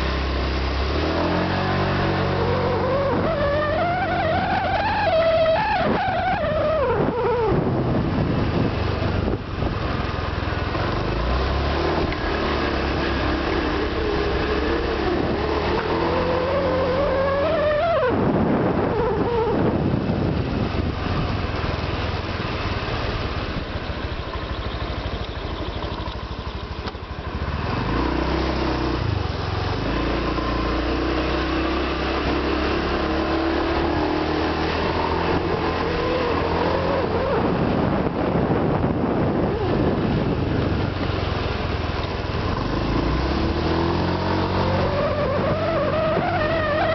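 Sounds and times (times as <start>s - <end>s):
scooter engine running: 0.0s - 46.9s.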